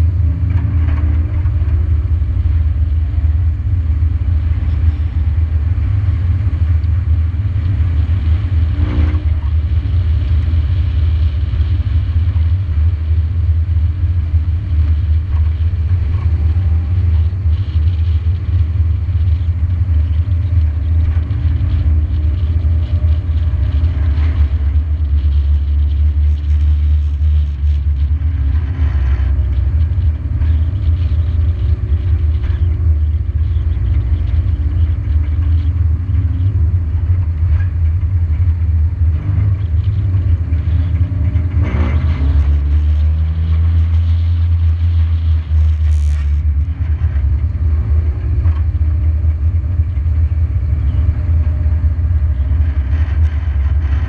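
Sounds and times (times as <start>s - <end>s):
race car engine running loudly: 0.0s - 54.0s.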